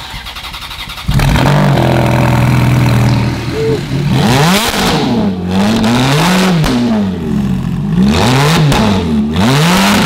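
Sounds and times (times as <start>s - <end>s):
sports car engine revving: 1.0s - 10.0s.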